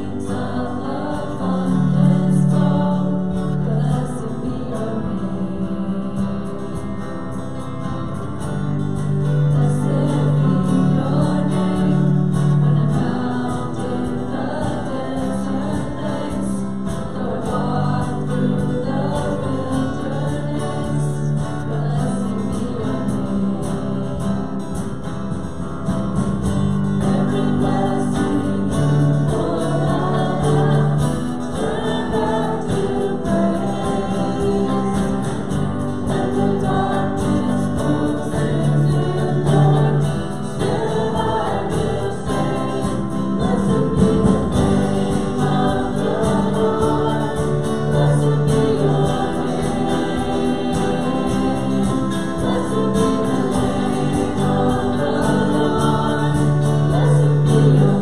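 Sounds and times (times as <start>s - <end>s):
acoustic guitar: 0.0s - 58.0s
group singing a worship song: 0.0s - 58.0s.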